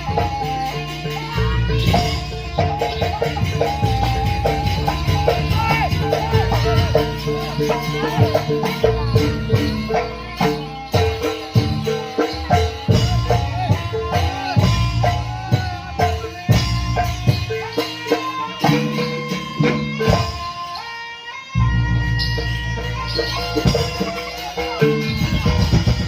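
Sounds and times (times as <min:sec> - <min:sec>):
rapid drum strokes: 0:00.0 - 0:26.0
struck percussion: 0:00.0 - 0:26.0.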